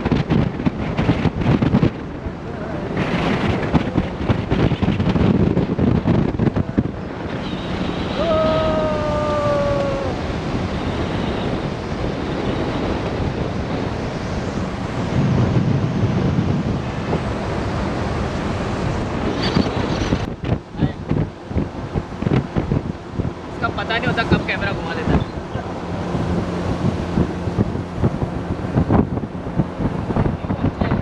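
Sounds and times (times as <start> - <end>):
road rumble: 0.0 - 31.0
wind buffeting microphone: 0.0 - 31.0.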